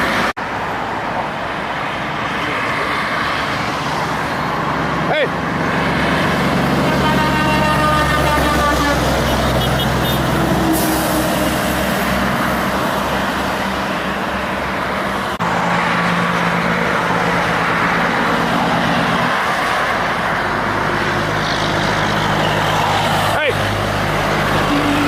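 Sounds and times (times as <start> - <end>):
diesel trucks passing on highway: 0.0 - 25.0.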